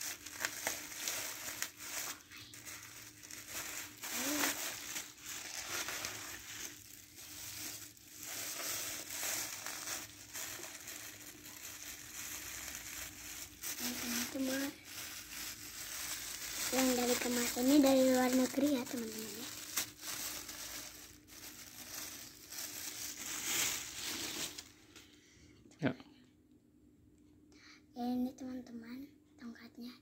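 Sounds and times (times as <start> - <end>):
plastic bag crinkling: 0.0 - 24.9.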